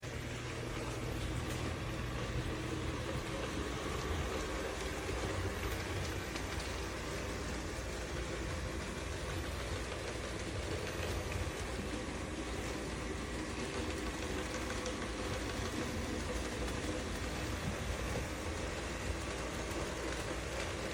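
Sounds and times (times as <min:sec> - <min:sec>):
robot vacuum running: 0:00.0 - 0:20.9.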